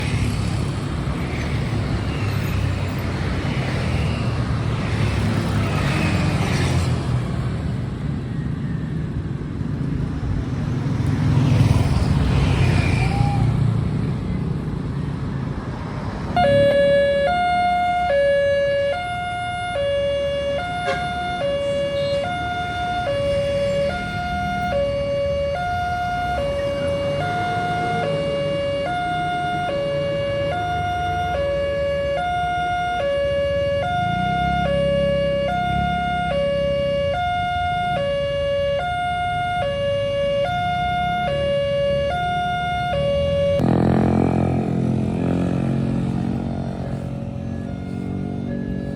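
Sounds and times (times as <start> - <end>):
road traffic rumbling: 0.0 - 48.9.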